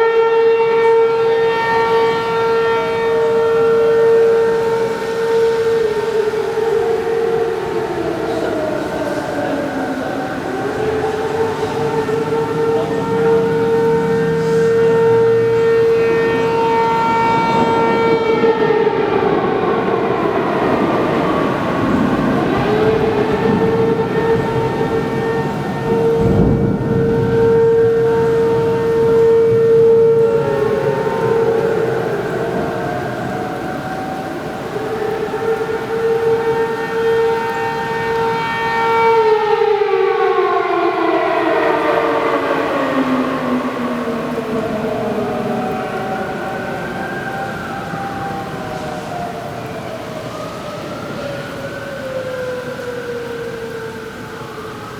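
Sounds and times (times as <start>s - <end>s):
tornado warning siren wailing: 0.0s - 54.9s.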